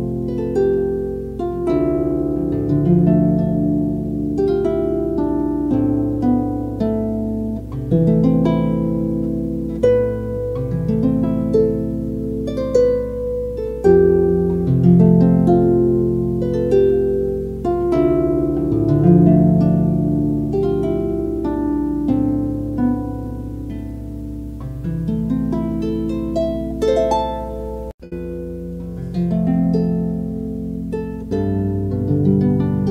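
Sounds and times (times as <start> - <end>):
harp playing: 0.0 - 32.9.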